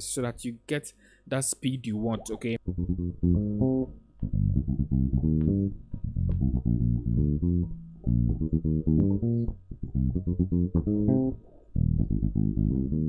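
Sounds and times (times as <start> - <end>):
electric bass guitar notes: 2.0 - 13.0.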